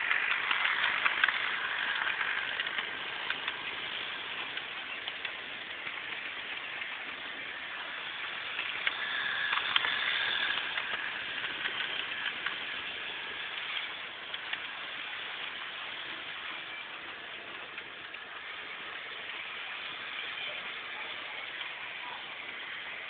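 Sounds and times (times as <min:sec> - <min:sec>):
street traffic noise: 0:00.0 - 0:23.0.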